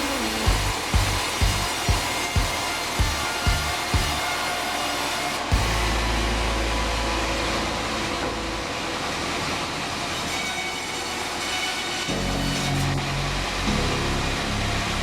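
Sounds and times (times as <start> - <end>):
deep drone: 0.0 - 15.0
sawmill bandsaw running: 0.0 - 15.0.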